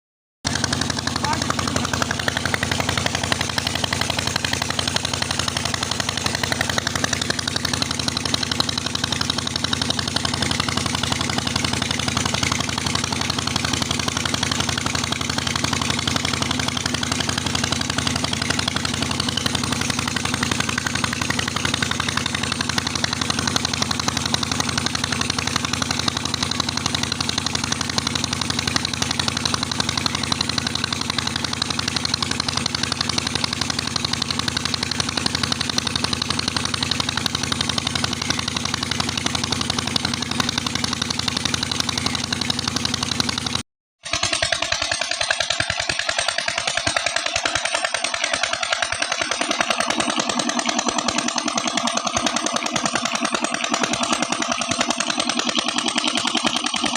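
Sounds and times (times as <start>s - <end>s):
diesel engine running: 0.4s - 56.9s.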